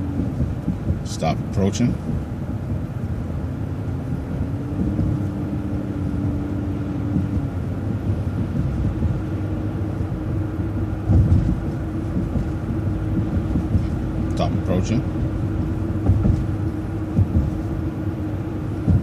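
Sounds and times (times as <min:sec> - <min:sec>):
bus engine and tyres drone: 0:00.0 - 0:19.0.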